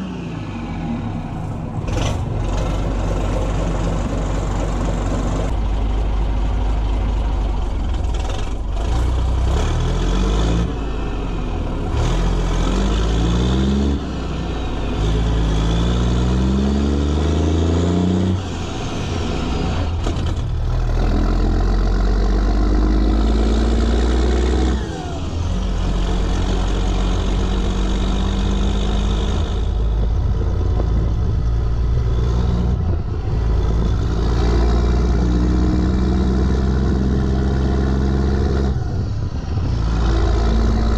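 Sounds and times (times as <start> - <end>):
truck diesel engine revving: 0.0 - 40.9.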